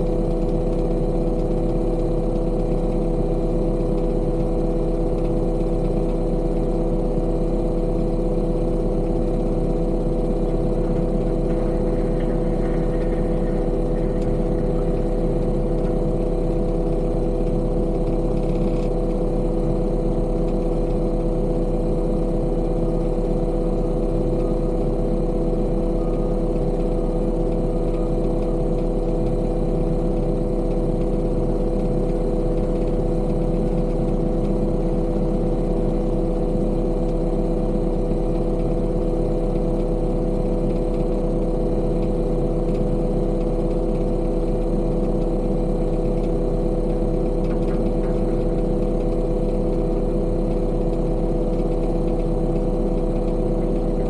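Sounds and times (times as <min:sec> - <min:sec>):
heavy machine engine droning: 0:00.0 - 0:54.0.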